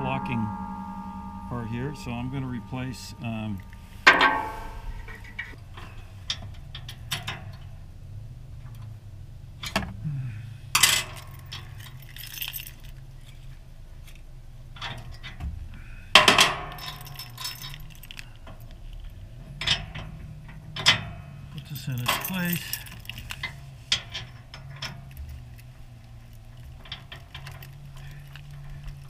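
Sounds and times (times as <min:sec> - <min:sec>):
metal hitch hardware clanking: 0:00.0 - 0:07.9, 0:10.7 - 0:29.0.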